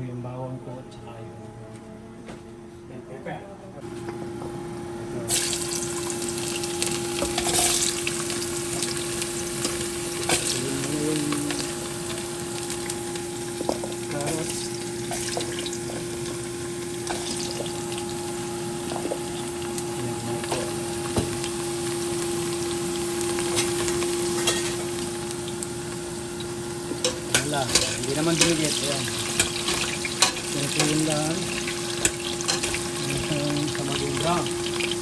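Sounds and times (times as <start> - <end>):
vegetables sizzling in oil: 5.3 - 35.0.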